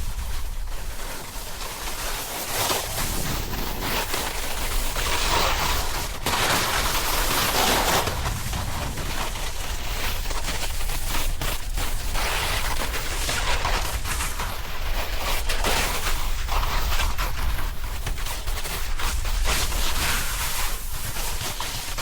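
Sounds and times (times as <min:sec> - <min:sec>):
snowboard scraping over snow: 0:00.0 - 0:22.0
wind rumbling on microphone: 0:00.0 - 0:22.0.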